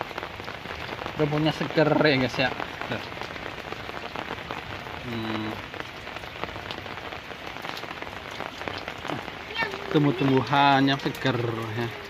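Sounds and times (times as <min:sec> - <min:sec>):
raindrops ticking on surfaces: 0:00.0 - 0:12.0
steady rain falling: 0:00.0 - 0:12.0.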